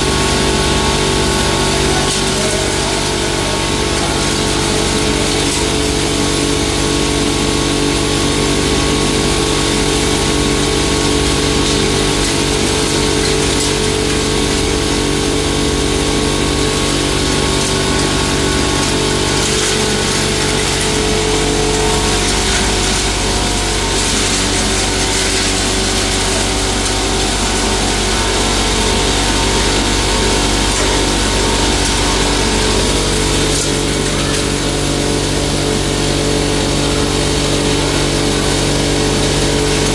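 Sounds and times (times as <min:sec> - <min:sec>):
hammer mill humming: 0:00.0 - 0:39.9.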